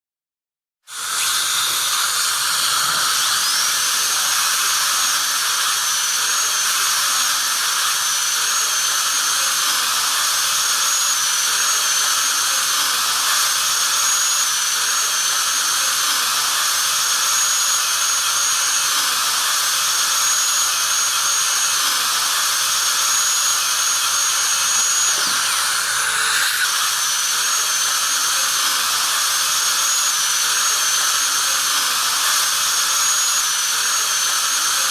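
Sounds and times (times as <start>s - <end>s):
dental drill whine: 0.9s - 34.9s.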